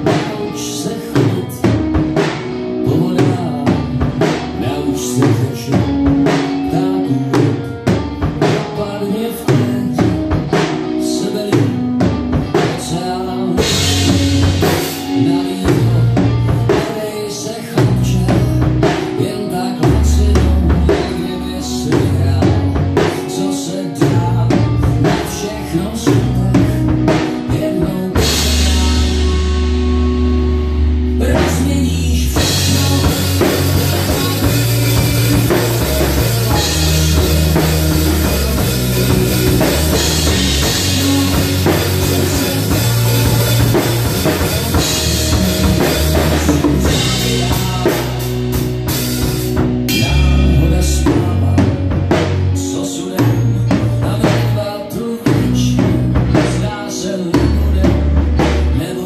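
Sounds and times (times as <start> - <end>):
drum kit playing: 0.0 - 59.0
pop-rock song with vocals: 0.0 - 59.0.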